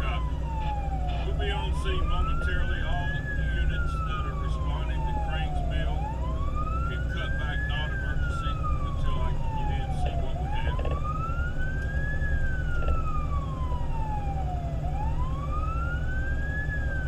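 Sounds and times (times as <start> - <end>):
fire engine siren wailing: 0.0 - 17.0
truck rumbling: 0.0 - 17.0.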